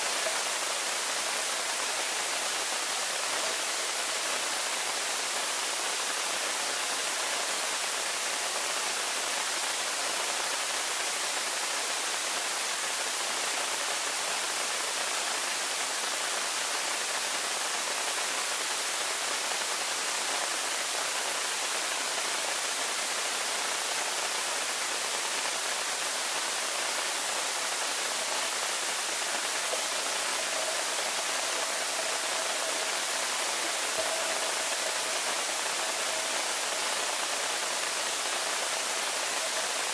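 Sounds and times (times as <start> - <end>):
faint steady whine: 0.0 - 39.9
underwater hiss: 0.0 - 39.9.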